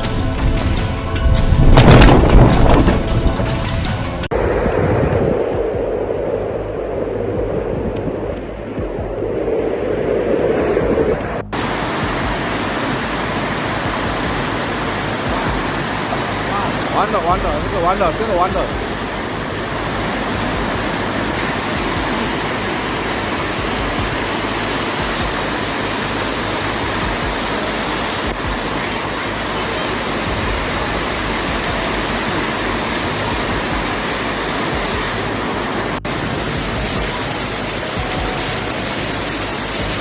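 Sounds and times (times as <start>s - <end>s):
loud rushing wind: 0.0s - 40.0s.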